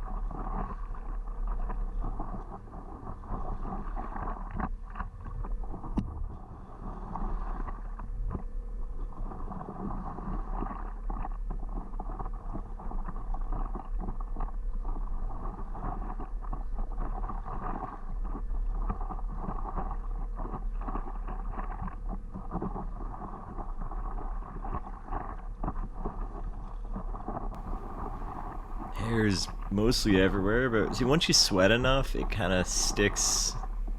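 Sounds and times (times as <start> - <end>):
water splashing around paddleboard: 0.0 - 31.0
wind rumbling on microphone: 0.0 - 33.9.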